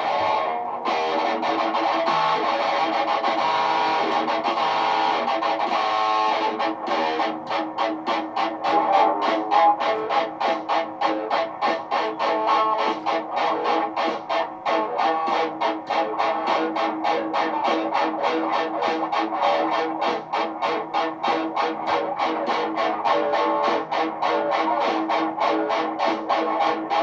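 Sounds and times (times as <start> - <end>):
electric guitar loops: 0.0 - 27.0.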